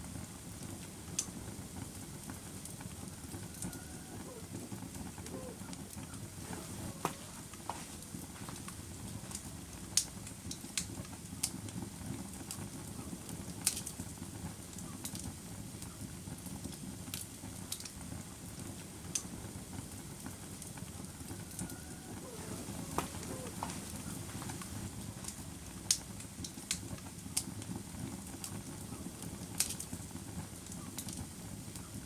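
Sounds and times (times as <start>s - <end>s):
logs crackling and popping: 0.0s - 32.0s
wood fire flames rushing: 0.0s - 32.0s.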